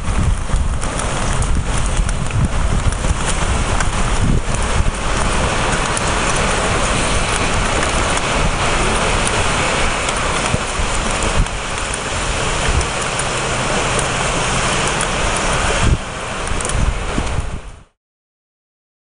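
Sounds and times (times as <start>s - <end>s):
heavy rain hissing: 0.0s - 18.0s
traffic on wet road: 0.0s - 18.0s
wind rumble on microphone: 0.0s - 18.0s.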